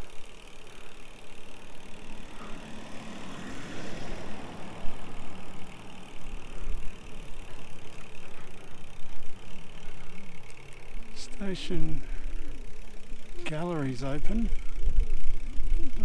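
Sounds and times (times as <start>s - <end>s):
low wind rumble: 0.0s - 13.4s, 14.0s - 16.0s
vehicle passing: 0.0s - 15.7s
vehicle engine running: 0.0s - 16.0s.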